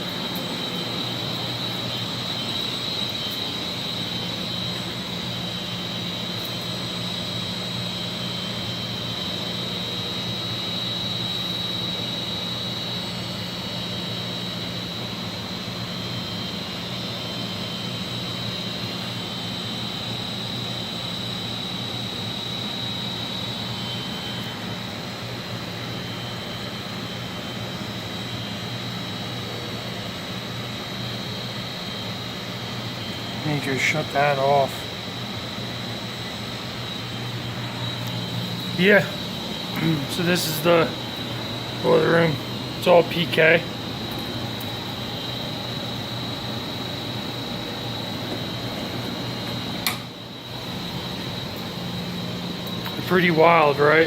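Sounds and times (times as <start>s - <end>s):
high-pitched machine whine: 0.0s - 54.0s
machinery low hum: 0.0s - 54.0s.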